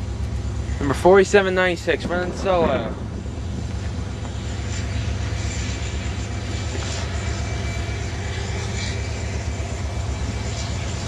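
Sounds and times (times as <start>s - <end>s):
diesel locomotive engine rumbling: 0.0s - 11.0s.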